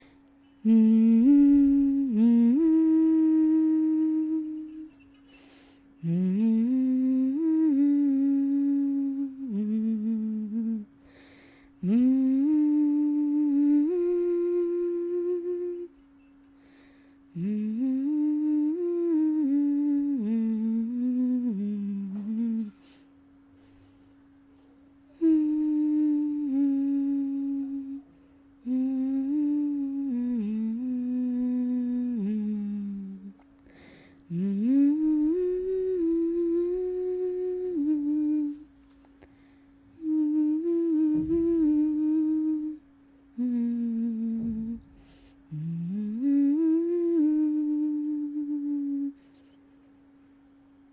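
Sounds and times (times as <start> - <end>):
person humming: 0.0 - 24.0, 25.1 - 49.6.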